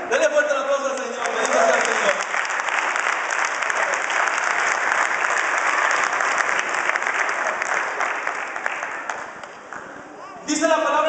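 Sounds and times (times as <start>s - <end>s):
congregation applauding: 0.7s - 10.1s.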